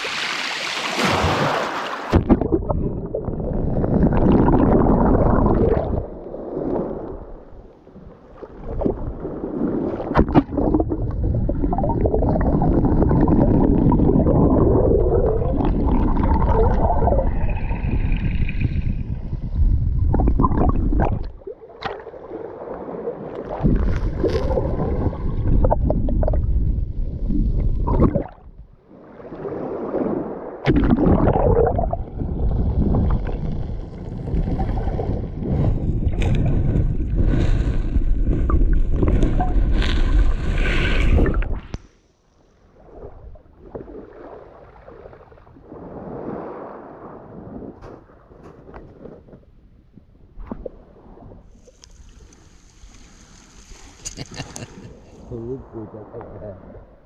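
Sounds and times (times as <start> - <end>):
water gurgling and sloshing: 0.0 - 57.0.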